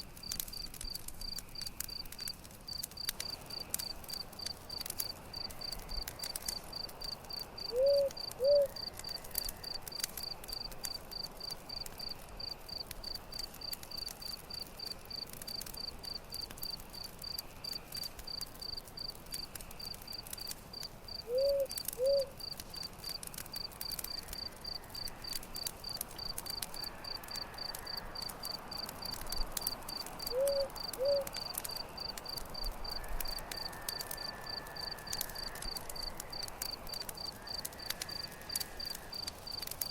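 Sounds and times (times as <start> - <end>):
campfire crackling: 0.0 - 39.9
cricket chirping: 0.2 - 39.9.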